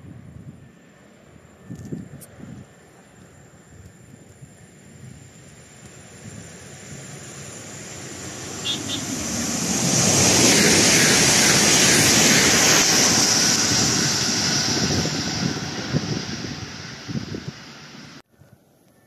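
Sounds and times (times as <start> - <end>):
train passing at speed: 0.0 - 18.3.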